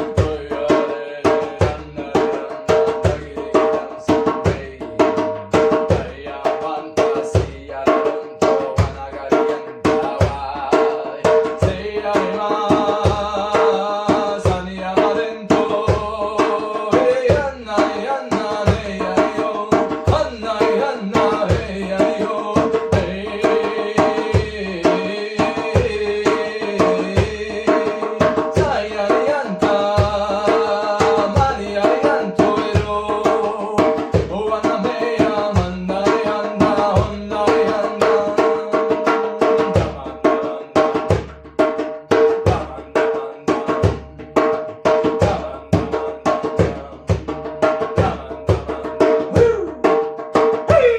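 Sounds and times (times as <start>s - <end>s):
hand drum beat: 0.0s - 50.9s.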